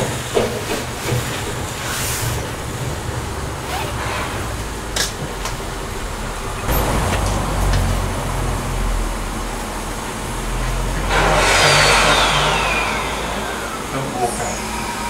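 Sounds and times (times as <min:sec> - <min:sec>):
steam hissing: 0:00.0 - 0:15.0
steam locomotive rumbling: 0:00.0 - 0:15.0.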